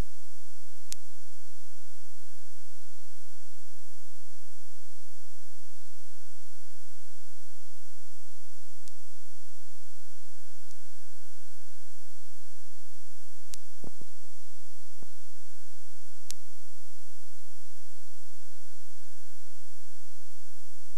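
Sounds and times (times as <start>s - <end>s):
tape hum and hiss: 0.0s - 20.9s
thin steady whine: 0.0s - 20.9s.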